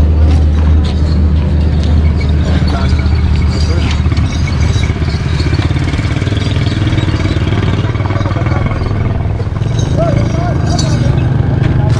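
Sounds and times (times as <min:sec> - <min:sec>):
small engine droning: 0:00.0 - 0:11.9.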